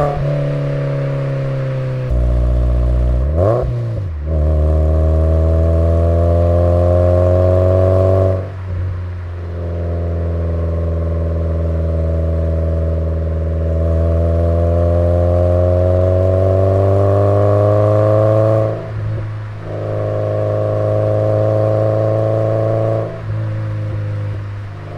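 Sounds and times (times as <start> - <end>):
car exhaust drone: 0.0 - 24.9.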